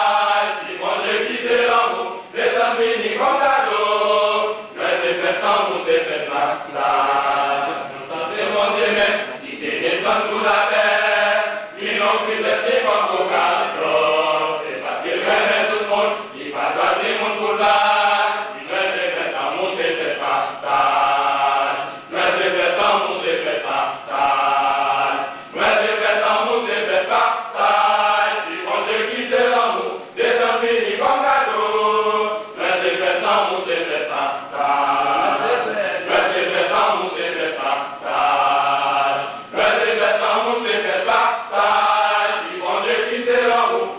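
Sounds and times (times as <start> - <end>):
men's choir singing: 0.0 - 43.9.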